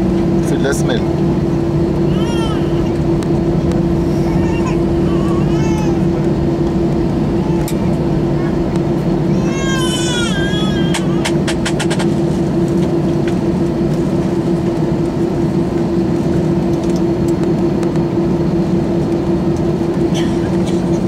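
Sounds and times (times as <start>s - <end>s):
jet engine cabin drone: 0.0s - 21.0s.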